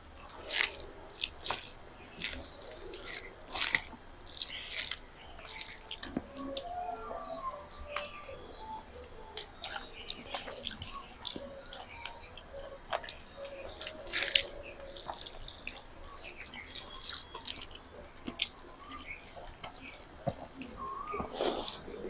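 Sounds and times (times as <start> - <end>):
wet smacking and chewing: 0.1 - 22.0
fingers squishing rice on plate: 0.2 - 7.3, 8.0 - 22.0.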